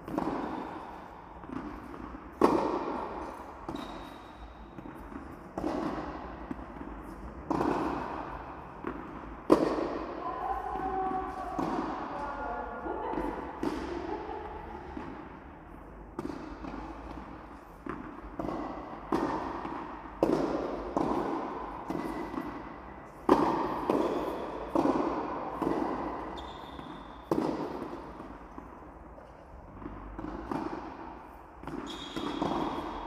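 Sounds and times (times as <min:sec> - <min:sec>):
tennis ball hit by rackets: 0:00.0 - 0:12.2, 0:13.1 - 0:33.0.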